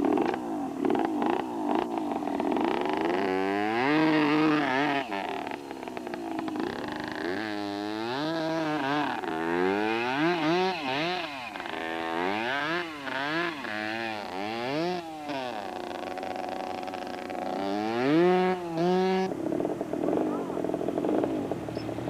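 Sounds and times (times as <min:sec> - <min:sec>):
small motorcycle engine revving: 0:00.0 - 0:22.0.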